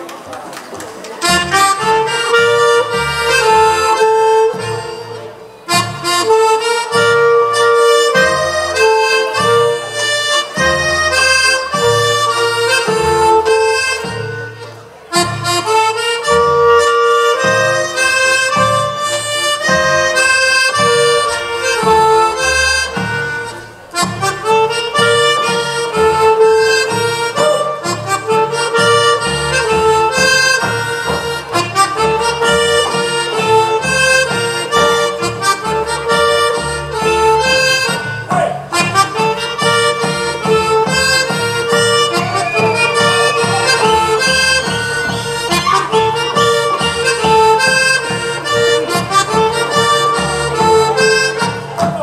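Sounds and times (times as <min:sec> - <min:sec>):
folk dance music: 0:00.0 - 0:52.0.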